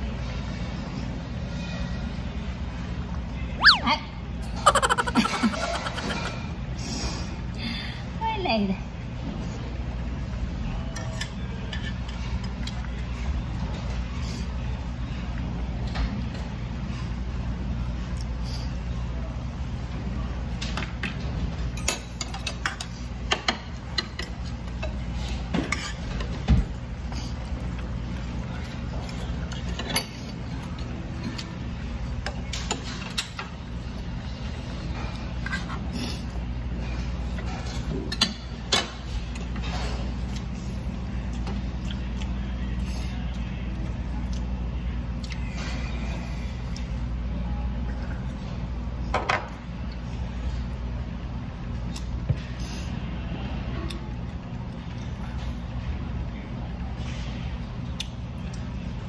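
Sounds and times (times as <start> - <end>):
ventilation hum: 0.0 - 59.0.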